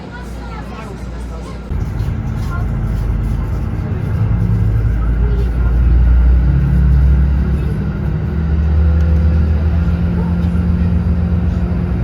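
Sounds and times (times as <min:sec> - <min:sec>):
road noise: 0:00.0 - 0:12.0
car engine rumble: 0:01.6 - 0:12.0.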